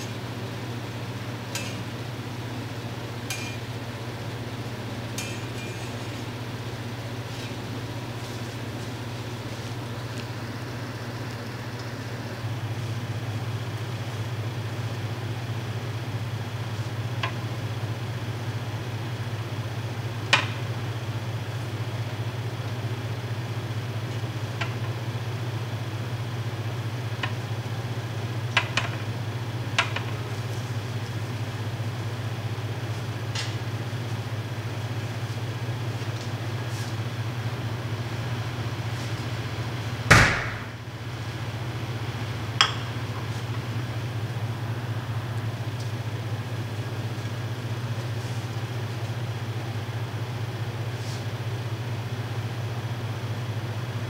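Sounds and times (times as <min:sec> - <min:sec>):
kitchen appliance humming: 0:00.0 - 0:54.0.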